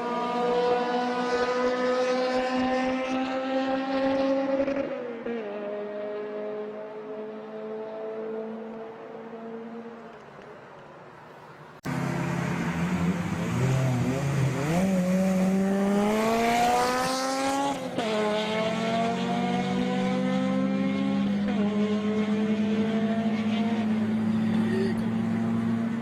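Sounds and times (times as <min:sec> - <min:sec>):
car engine accelerating: 0:00.0 - 0:10.2, 0:11.8 - 0:26.0.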